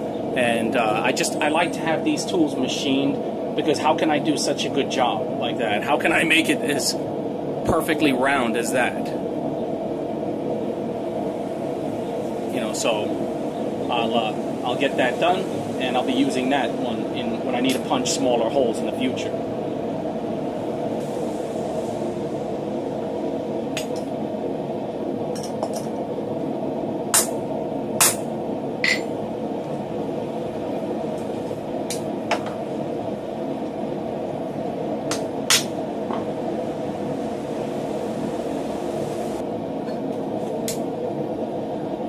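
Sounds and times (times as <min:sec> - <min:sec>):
steady drone: 0:00.0 - 0:42.0.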